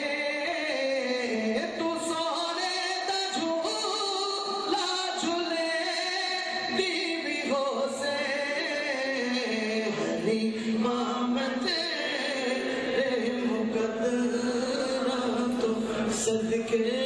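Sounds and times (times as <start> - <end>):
men singing unaccompanied: 0.0 - 17.0.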